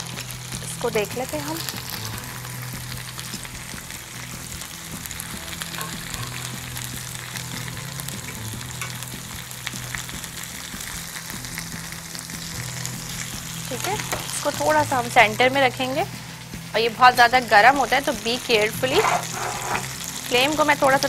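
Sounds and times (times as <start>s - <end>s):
chicken sizzling in fat: 0.0s - 21.0s.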